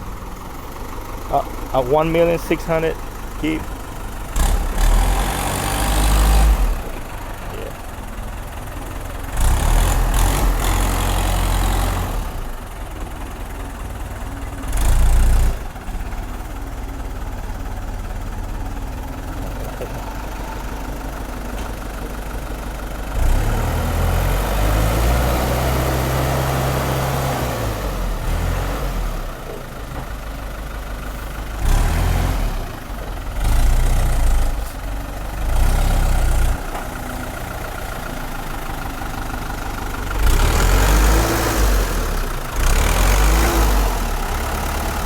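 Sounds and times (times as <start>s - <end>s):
truck engine idling and revving: 0.0s - 45.0s.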